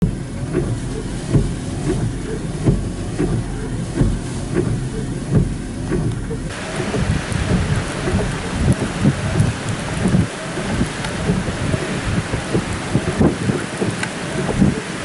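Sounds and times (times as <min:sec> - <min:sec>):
steady hiss of rain: 0:00.0 - 0:15.0
wind buffeting microphone: 0:00.0 - 0:15.0.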